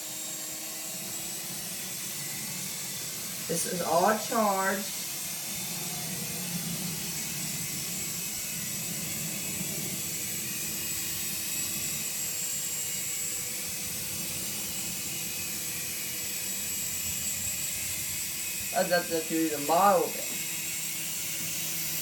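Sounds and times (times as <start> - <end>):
toy helicopter motor whirring: 0.0 - 22.0.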